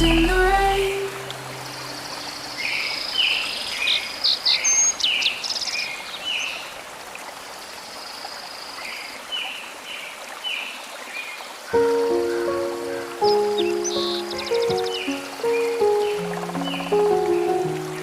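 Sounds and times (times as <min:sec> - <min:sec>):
running stream: 0:00.0 - 0:18.0
small birds chirping: 0:01.7 - 0:06.7, 0:08.0 - 0:18.0.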